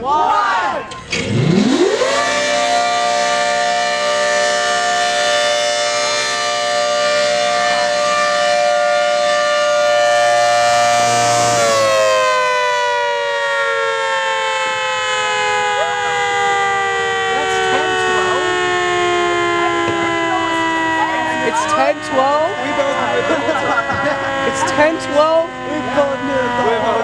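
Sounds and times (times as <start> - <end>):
two-tone civil defense siren: 1.2 - 27.0.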